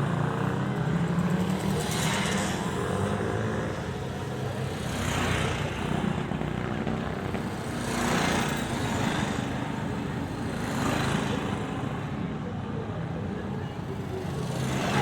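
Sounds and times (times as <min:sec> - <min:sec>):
motorcycles riding past: 0:00.0 - 0:12.3, 0:13.8 - 0:15.0.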